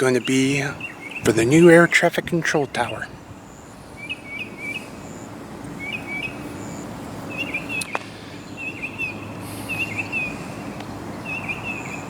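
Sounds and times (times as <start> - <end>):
songbird warbling: 0.0 - 12.0
steady low hum: 0.0 - 12.0.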